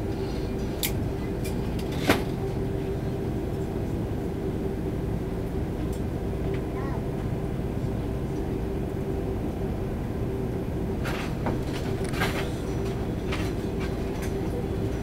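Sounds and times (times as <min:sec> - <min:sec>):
aircraft engines idling: 0:00.0 - 0:15.0.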